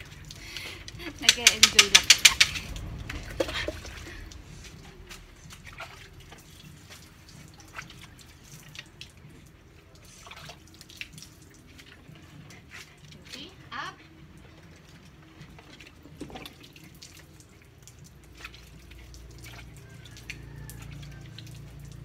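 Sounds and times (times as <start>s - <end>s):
water dripping and splashing: 0.0s - 22.0s.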